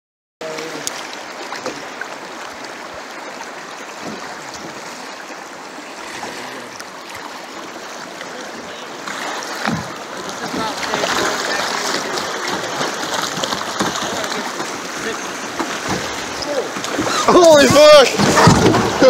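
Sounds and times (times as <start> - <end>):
creek water rushing over riffles: 0.4 - 19.0.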